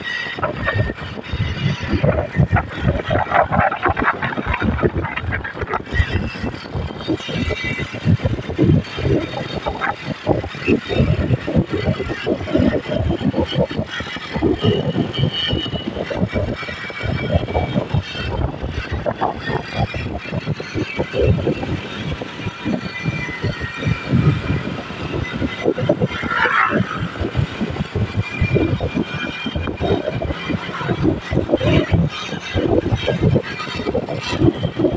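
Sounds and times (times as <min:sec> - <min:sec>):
vehicle road and engine noise: 0:00.0 - 0:34.9
wind buffeting microphone: 0:00.0 - 0:34.9.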